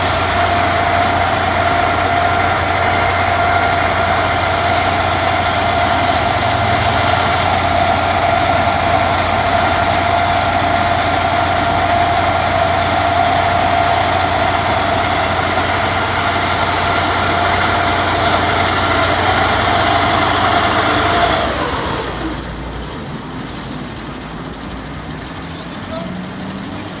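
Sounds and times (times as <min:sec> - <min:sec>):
heavy machine engine whining: 0:00.0 - 0:27.0.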